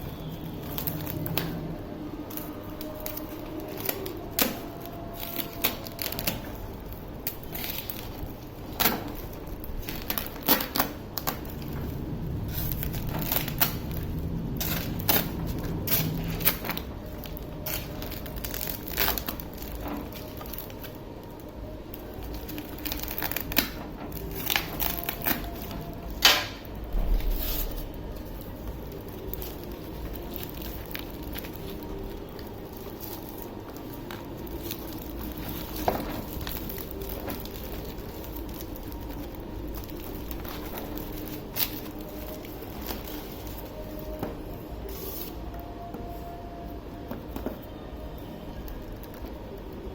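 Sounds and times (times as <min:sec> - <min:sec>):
packaging crinkling and rustling: 0:00.0 - 0:49.9.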